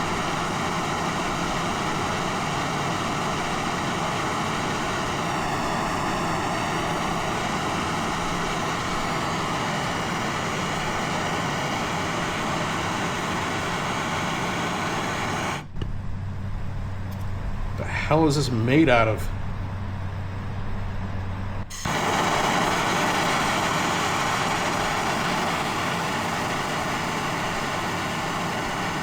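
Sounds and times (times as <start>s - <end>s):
gas torch roaring: 0.0s - 29.0s.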